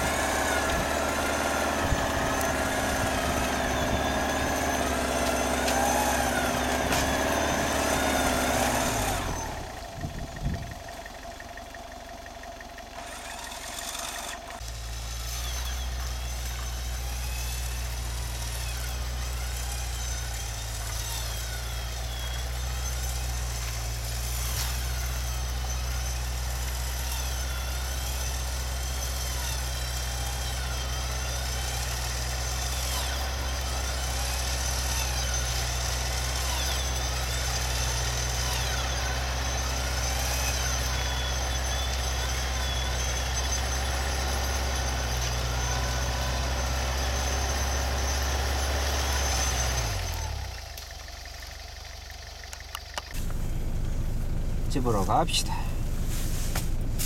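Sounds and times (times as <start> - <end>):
engine rumbling at low revs: 0.0 - 57.0.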